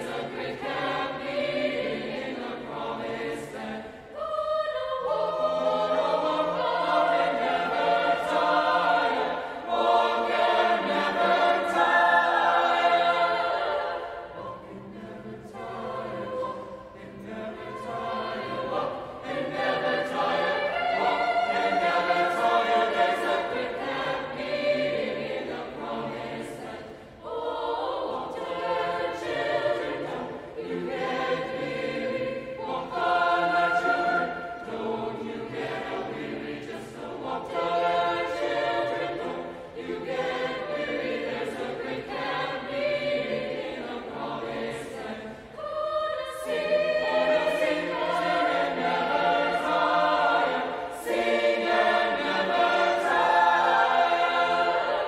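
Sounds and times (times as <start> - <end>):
choir singing in harmony: 0.0 - 55.0.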